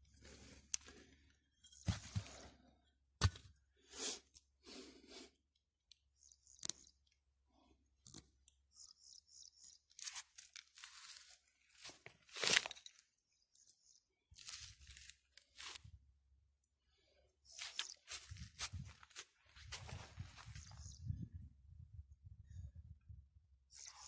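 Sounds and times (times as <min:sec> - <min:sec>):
dry soil and stones crunching: 0:00.0 - 0:24.0.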